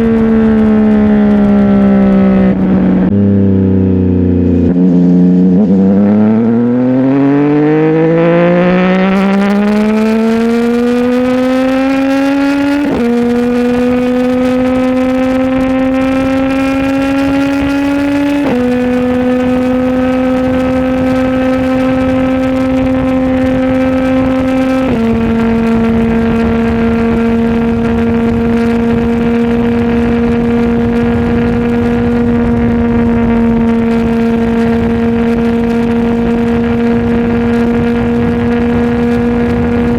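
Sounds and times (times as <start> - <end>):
motorcycle engine accelerating: 0.0 - 39.9
gear upshifts: 7.3 - 39.9.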